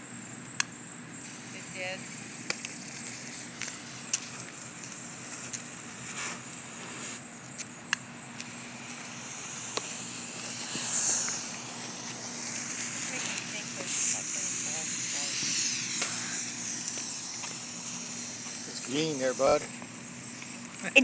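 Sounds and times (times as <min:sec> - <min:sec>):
firework pops: 0:00.5 - 0:21.0
firework hissing spray: 0:01.1 - 0:21.0.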